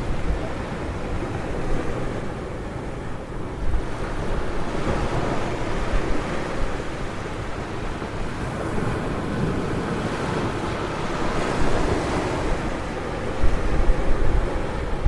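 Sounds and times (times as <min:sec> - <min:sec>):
ocean surf breaking on beach: 0:00.0 - 0:15.0
wind buffeting microphone: 0:00.0 - 0:15.0.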